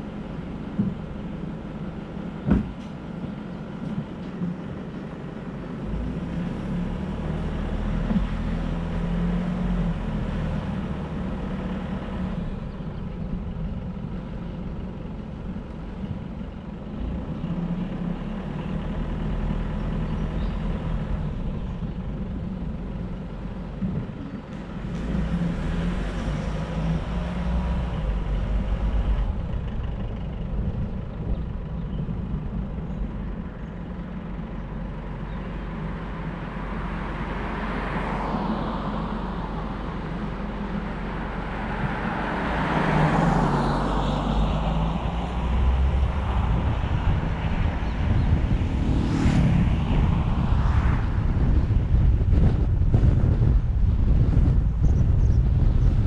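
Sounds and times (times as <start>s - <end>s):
tyre and road noise: 0.0s - 56.0s
vehicle engine hum: 0.0s - 56.0s.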